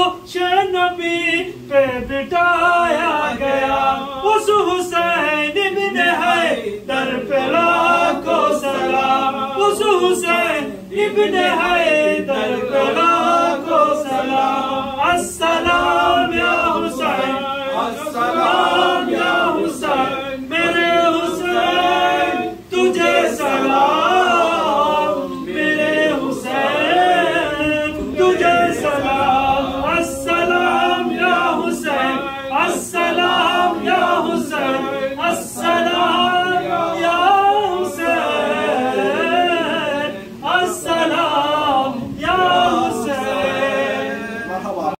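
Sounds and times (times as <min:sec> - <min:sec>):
men singing unaccompanied: 0:00.0 - 0:45.0.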